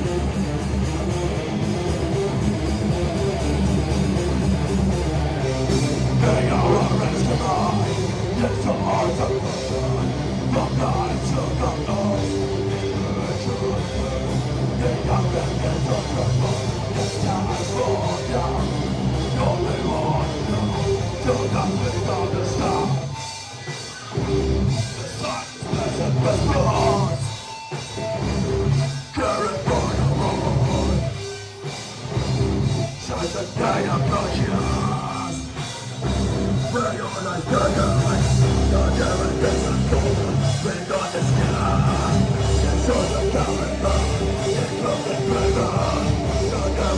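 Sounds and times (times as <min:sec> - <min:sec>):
bass: 0:00.0 - 0:46.9
distorted electric guitars: 0:00.0 - 0:46.9
drum kit: 0:00.0 - 0:46.9.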